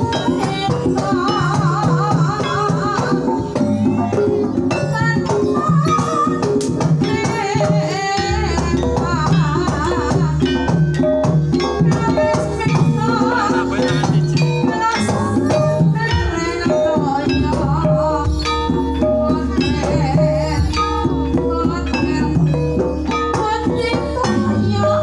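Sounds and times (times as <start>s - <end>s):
gamelan ensemble playing: 0.0s - 25.0s
woman singing ornamented vocal: 0.0s - 25.0s.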